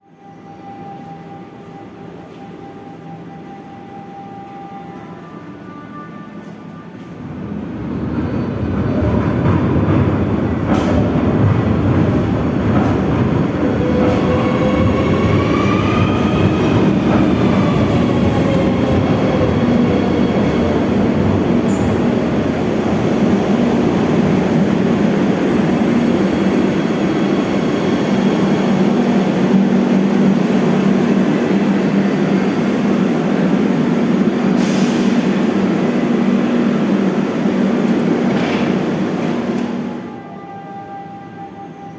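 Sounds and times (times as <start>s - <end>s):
electric train running on rails: 6.4s - 41.9s.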